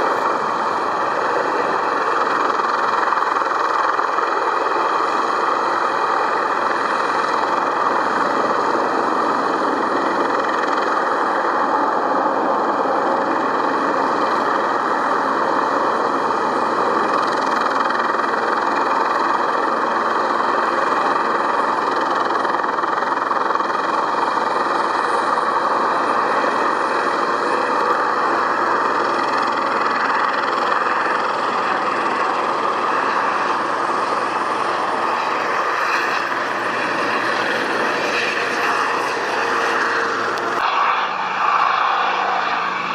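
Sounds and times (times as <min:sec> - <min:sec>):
helicopter turbine and rotor noise: 0:00.0 - 0:42.9
high steady whine: 0:00.0 - 0:42.9.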